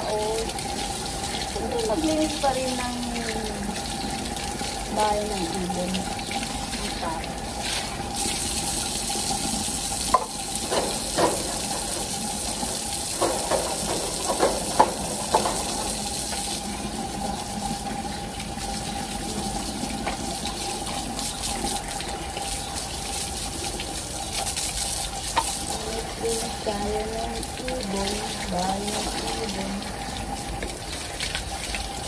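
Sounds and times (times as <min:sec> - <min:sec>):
water running from a tap: 0:00.0 - 0:32.0.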